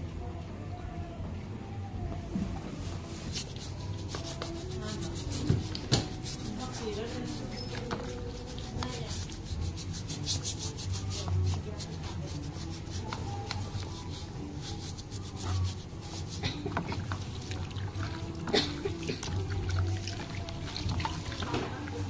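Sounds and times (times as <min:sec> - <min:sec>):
hands scrubbing wet feet: 0:03.2 - 0:22.0.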